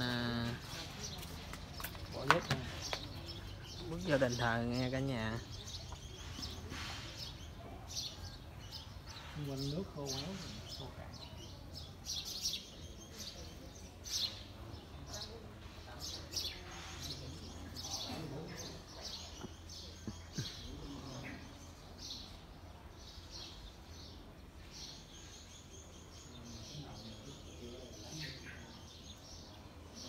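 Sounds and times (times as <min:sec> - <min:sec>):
faint voices: 0:00.0 - 0:30.0
small birds chirping: 0:00.0 - 0:30.0.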